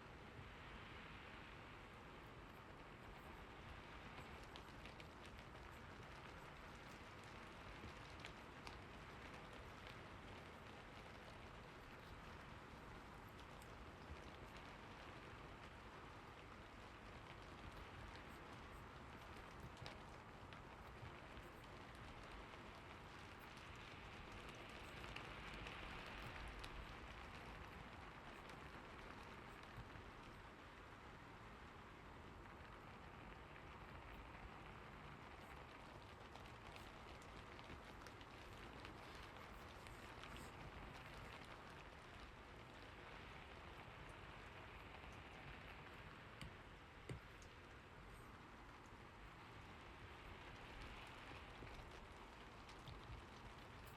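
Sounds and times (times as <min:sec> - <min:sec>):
soft steady rain: 0:00.0 - 0:53.9.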